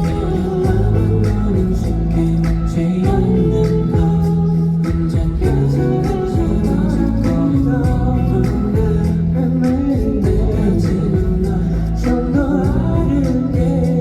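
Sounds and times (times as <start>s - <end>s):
drum beat: 0.0s - 2.0s, 2.6s - 14.0s
live pop music: 0.0s - 14.0s
man singing lead vocal: 0.0s - 14.0s.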